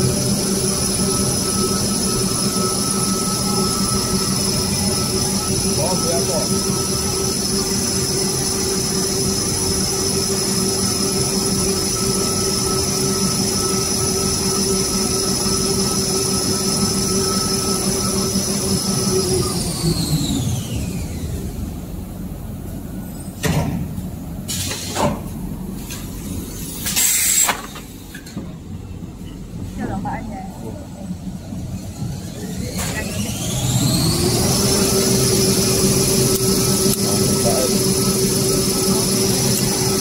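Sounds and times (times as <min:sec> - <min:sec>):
machine whining and spinning down: 0:00.0 - 0:28.0, 0:28.7 - 0:40.0.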